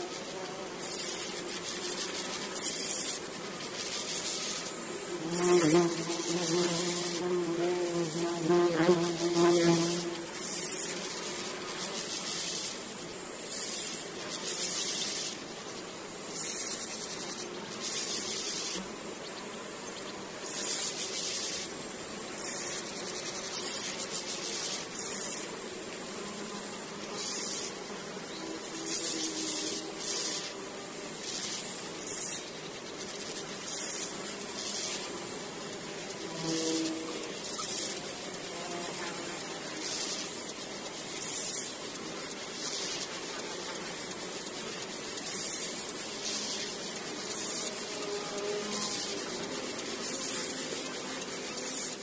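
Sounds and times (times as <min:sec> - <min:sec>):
grasshoppers chirring: 0:00.0 - 0:52.0
outdoor background: 0:00.0 - 0:52.0.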